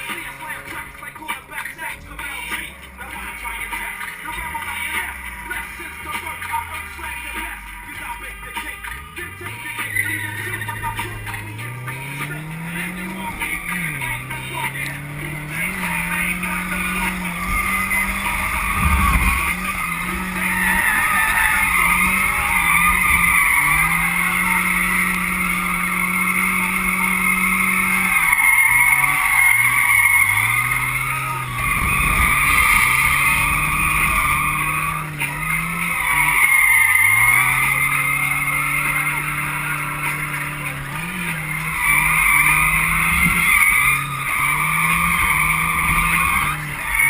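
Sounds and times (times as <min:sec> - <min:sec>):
car engines revving: 0:00.0 - 0:47.0
tyres screeching: 0:00.0 - 0:47.0.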